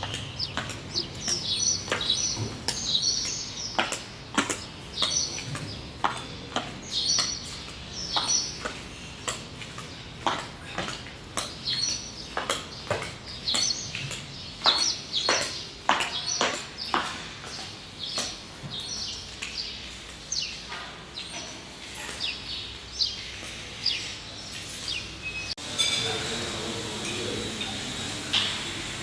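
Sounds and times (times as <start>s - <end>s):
small birds chirping: 0.0s - 25.6s.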